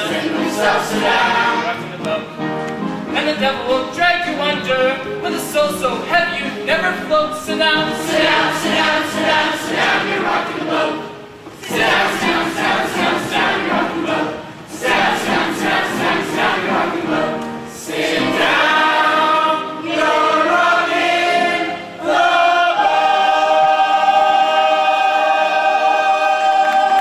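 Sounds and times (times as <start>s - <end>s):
choir singing gospel-style song: 0.0s - 2.2s, 7.6s - 27.0s.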